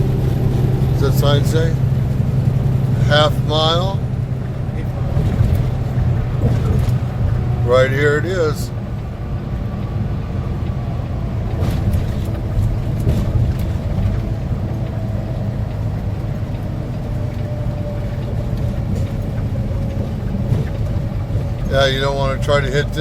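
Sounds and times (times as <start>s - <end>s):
light rattles: 0.0s - 23.0s
truck engine and road rumble: 0.0s - 23.0s.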